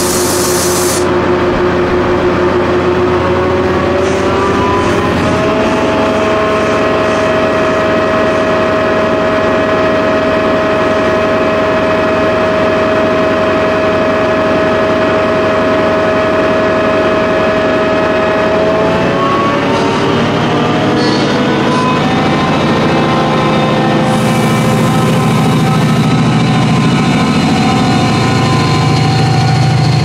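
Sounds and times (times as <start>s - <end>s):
diesel locomotive engine running: 0.0s - 30.0s
high whine: 0.0s - 30.0s.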